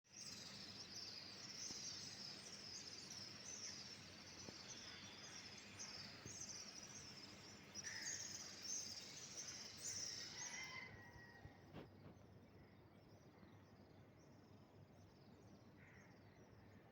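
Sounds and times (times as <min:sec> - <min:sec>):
low outdoor hiss: 0:00.1 - 0:16.8.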